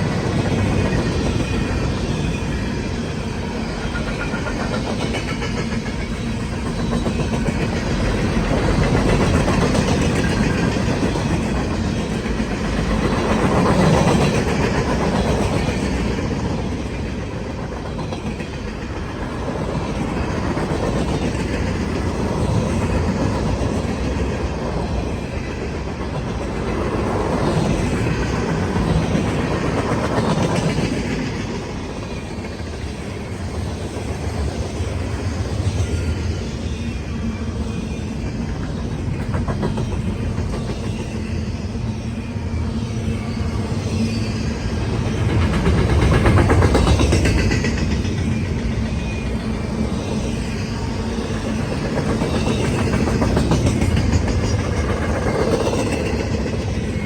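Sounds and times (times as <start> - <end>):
freight train cars rolling on rails: 0.0 - 57.0.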